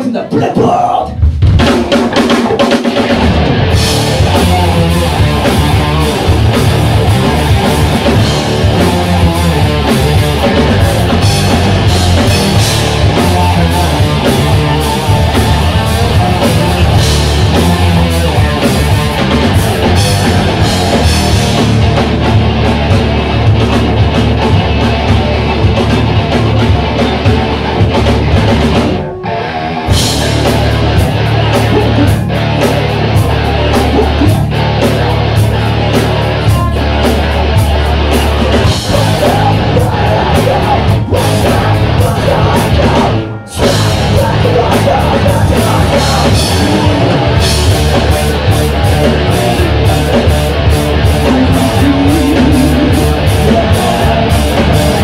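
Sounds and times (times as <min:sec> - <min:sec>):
drum kit: 0:00.0 - 0:55.0
electric guitars: 0:01.0 - 0:55.0.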